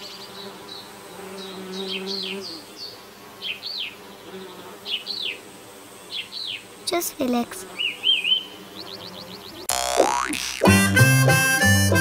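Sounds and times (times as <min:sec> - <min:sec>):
insect buzzing: 0:00.0 - 0:10.8.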